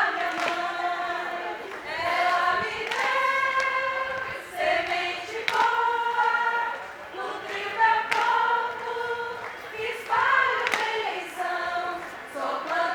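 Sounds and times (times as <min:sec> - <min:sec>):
women singing in unison: 0:00.0 - 0:12.9.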